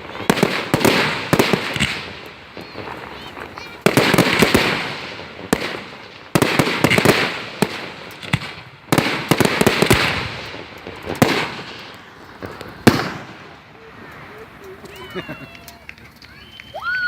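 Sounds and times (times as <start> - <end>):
fireworks bursting with crackling: 0.0 - 17.0.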